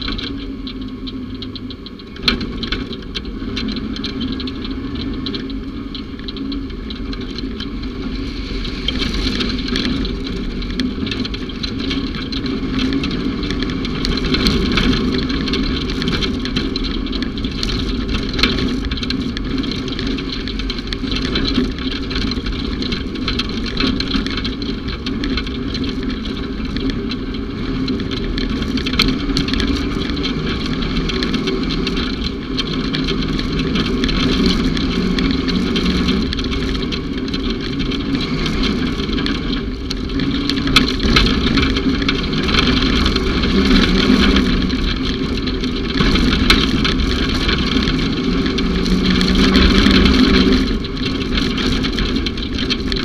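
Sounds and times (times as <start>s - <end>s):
knocks and rattles over rough ground: 0.0s - 53.0s
vehicle engine running: 0.0s - 53.0s.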